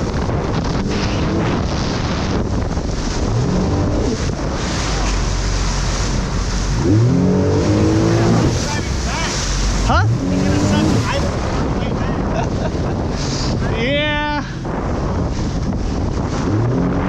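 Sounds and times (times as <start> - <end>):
jet ski engine: 0.0 - 17.0
water rushing: 0.0 - 17.0
wind buffeting microphone: 0.0 - 17.0.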